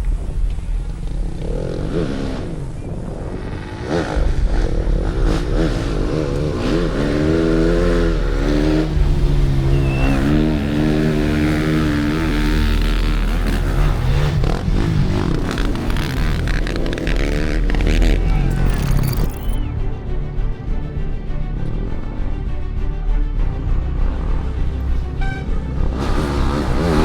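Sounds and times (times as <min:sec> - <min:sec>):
motorcycle engines revving by: 0:00.0 - 0:19.6, 0:24.1 - 0:27.0.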